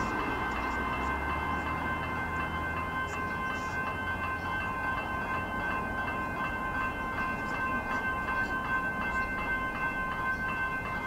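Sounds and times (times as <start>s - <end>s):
electric train rumble: 0.0s - 11.0s
level crossing bells ringing: 0.0s - 11.0s.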